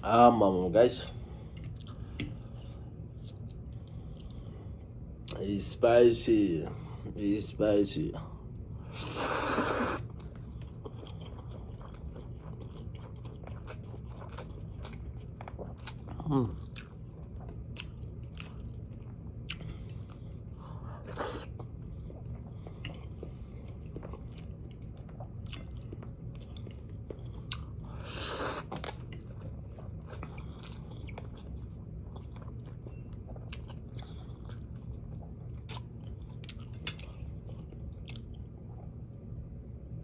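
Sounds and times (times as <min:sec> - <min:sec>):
steady low hum: 0:00.0 - 0:40.0
person chewing noodles: 0:01.2 - 0:05.4, 0:08.6 - 0:39.0.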